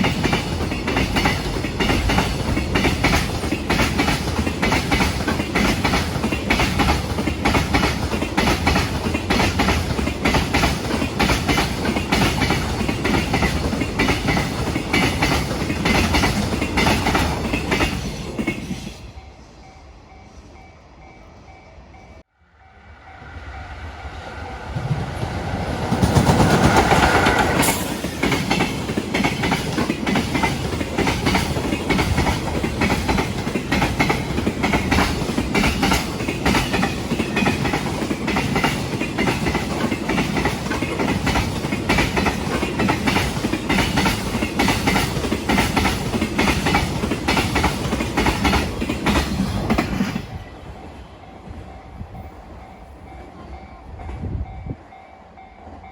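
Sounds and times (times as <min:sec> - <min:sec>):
freight train passing: 0:00.0 - 0:55.9.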